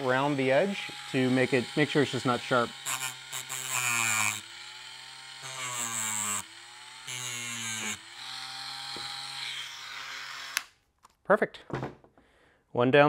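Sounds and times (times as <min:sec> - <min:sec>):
rotary tool grinding metal: 0:00.0 - 0:10.7.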